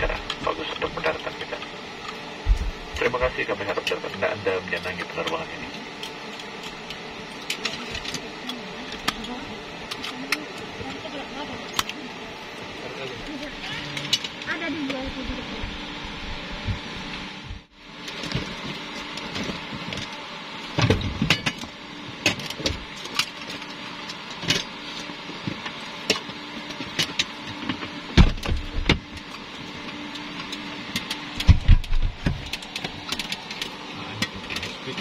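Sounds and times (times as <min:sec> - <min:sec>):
cabin hum: 0:00.0 - 0:35.0.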